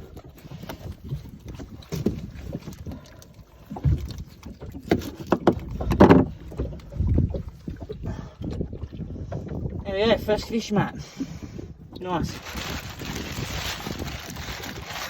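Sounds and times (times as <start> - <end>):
knocks and clatter in metal boat: 0.0 - 15.0
low rumble of wind and water: 0.0 - 15.0.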